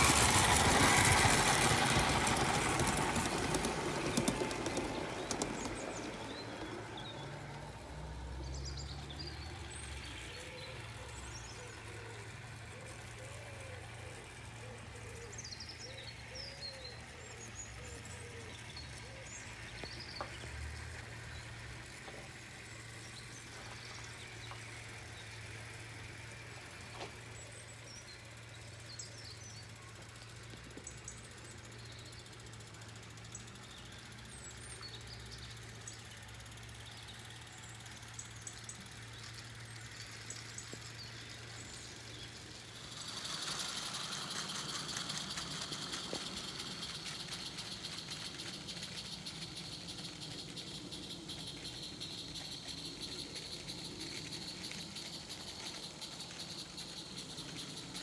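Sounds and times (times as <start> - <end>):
birds chirping: 0.0 - 58.0
model train passing with hiss: 0.0 - 58.0.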